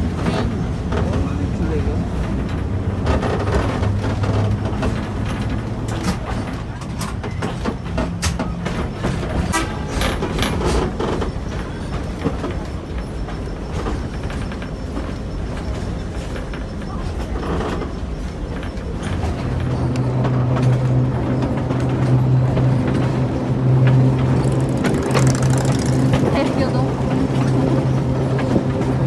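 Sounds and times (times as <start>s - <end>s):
tram rattling on rails: 0.0s - 29.0s.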